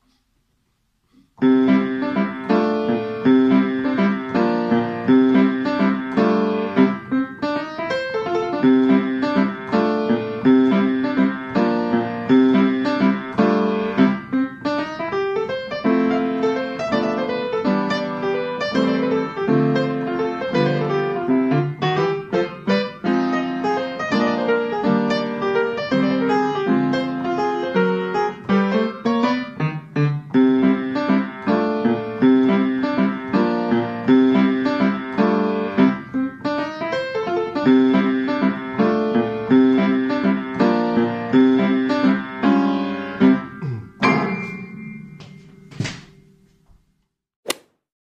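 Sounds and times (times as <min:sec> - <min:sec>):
solo swing piano: 0:01.1 - 0:46.8.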